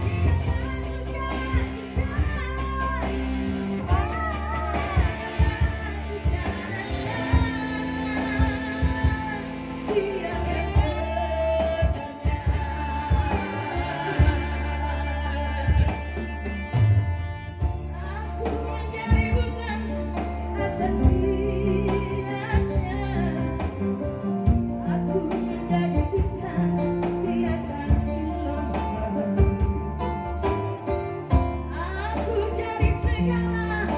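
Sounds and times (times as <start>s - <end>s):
song over loudspeakers: 0.0s - 33.9s.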